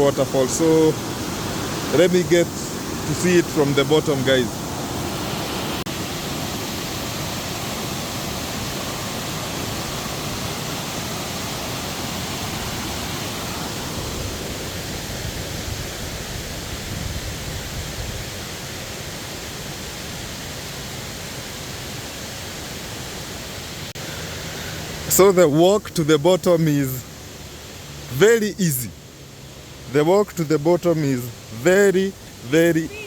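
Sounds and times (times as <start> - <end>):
waterfall rushing: 0.0 - 16.8, 18.4 - 33.0.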